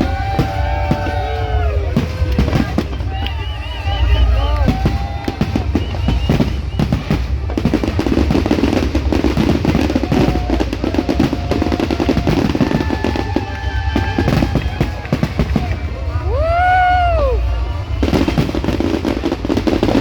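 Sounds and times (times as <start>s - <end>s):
fireworks bangs and crackles: 0.0s - 20.0s
music playing: 0.0s - 20.0s.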